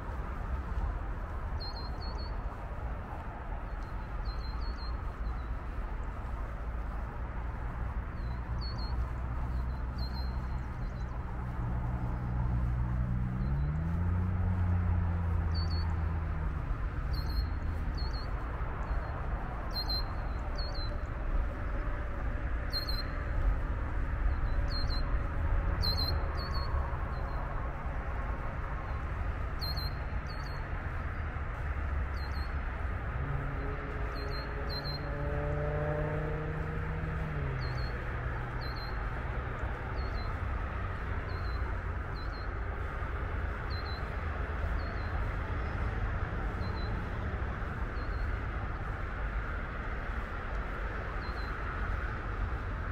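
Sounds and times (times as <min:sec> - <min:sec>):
distant road traffic rumble: 0:00.0 - 0:52.9
engine hum rising in pitch: 0:01.6 - 0:52.9.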